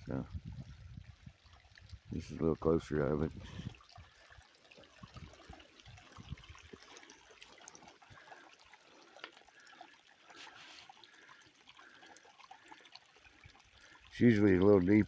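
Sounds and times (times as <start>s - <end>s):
water drips and splashes: 0.0s - 15.0s
water trickling into a pool: 0.0s - 15.0s.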